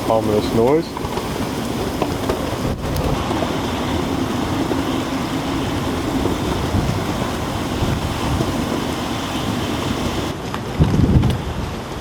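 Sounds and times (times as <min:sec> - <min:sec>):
low roar of wind: 0:00.0 - 0:12.0.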